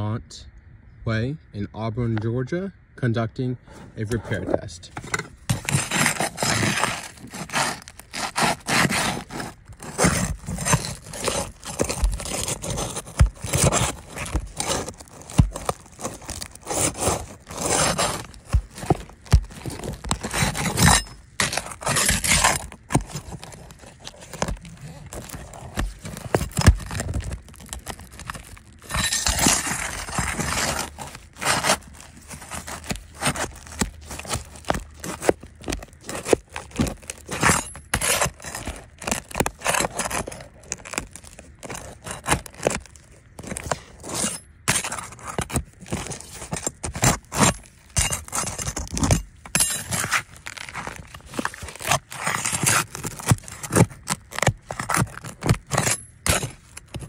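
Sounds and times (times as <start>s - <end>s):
roof shingles scraping and crackling: 4.9s - 57.0s.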